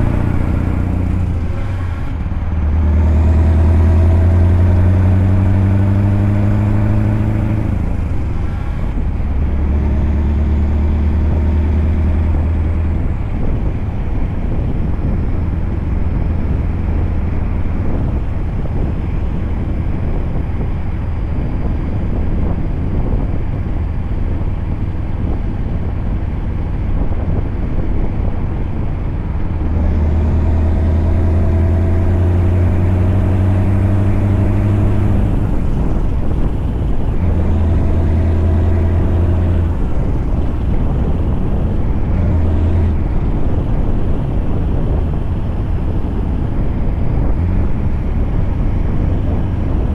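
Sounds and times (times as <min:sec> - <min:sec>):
truck diesel engine droning: 0:00.0 - 0:49.9.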